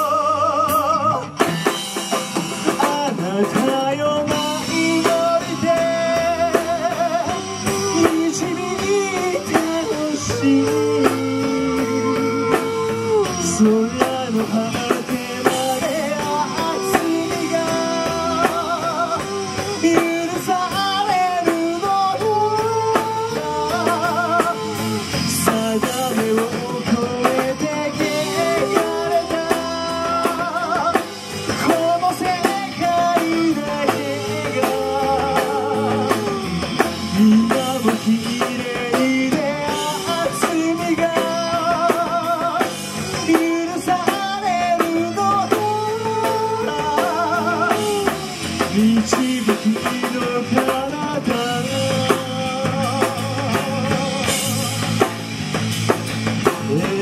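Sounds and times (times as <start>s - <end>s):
drums: 0.0s - 57.0s
electric guitar: 0.0s - 57.0s
man singing rock song: 0.0s - 57.0s.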